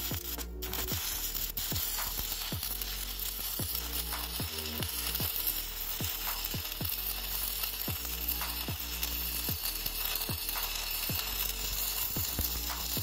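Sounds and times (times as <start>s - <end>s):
arc welding crackling sizzle: 0.0s - 13.0s
background music with beat: 0.0s - 13.0s.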